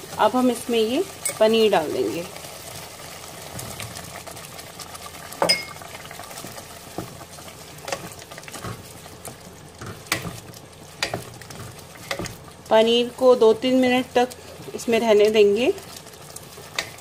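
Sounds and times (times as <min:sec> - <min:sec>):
low sizzle: 0:00.0 - 0:17.0.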